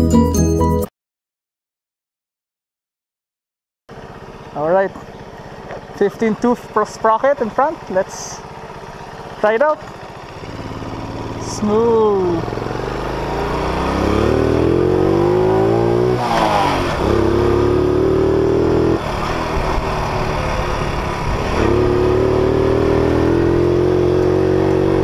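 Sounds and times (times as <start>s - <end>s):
small motorcycle engine revving: 3.9s - 25.0s.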